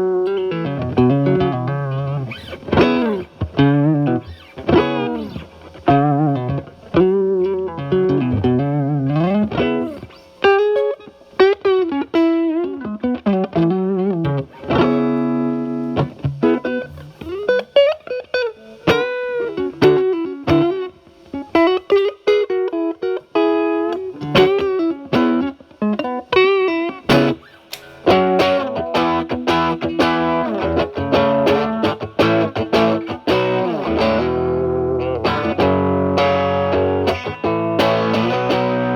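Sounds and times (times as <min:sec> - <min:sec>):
overdriven electric guitar playing: 0:00.0 - 0:38.9.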